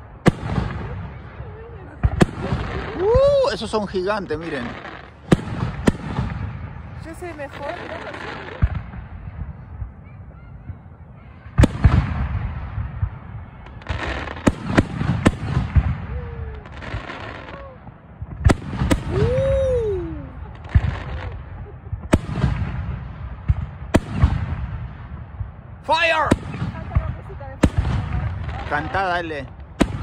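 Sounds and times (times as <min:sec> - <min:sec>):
firework bangs with rumbling tails: 0:00.0 - 0:30.0.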